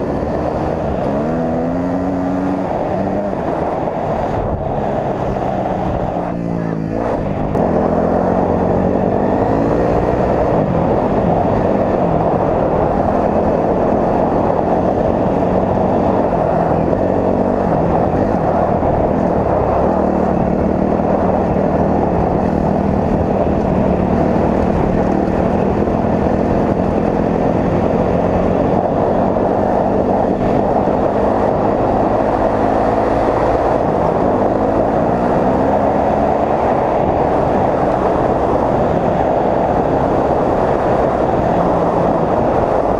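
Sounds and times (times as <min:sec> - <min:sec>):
dirt bike engine revving: 0:00.0 - 0:39.1.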